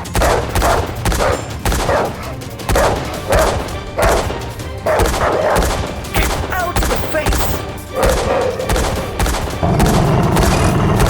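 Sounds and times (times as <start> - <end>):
background music: 0.0 - 11.0
sharp bangs: 0.0 - 11.0.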